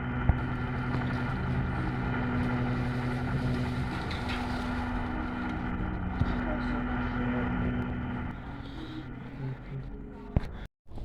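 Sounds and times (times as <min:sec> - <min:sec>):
low mechanical hum: 0:00.0 - 0:10.7.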